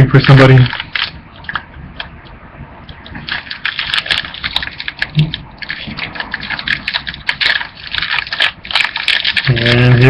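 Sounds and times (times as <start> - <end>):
foil wrapper crinkling: 0.0 - 1.7, 3.0 - 10.0.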